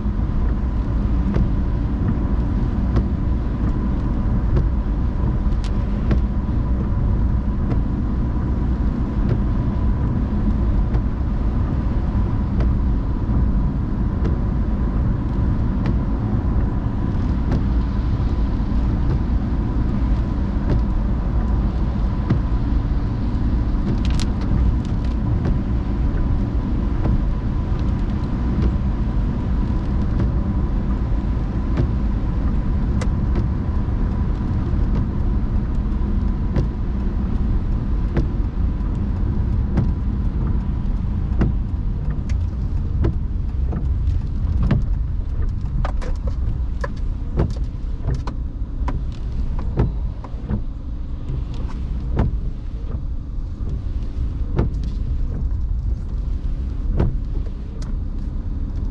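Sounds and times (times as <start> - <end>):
car driving on wet road: 0.0 - 58.9.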